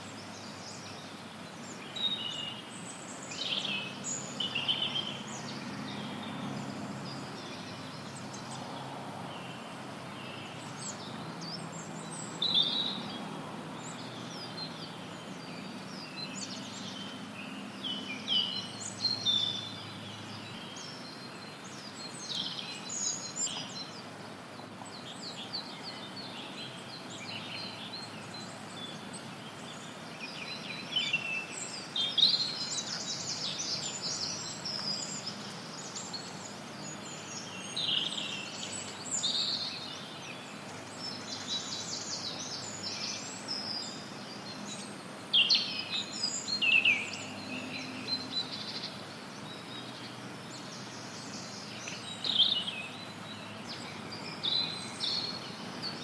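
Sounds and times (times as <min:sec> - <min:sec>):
songbirds chirping and trilling: 0:00.0 - 0:56.0
white noise hiss: 0:00.0 - 0:56.0.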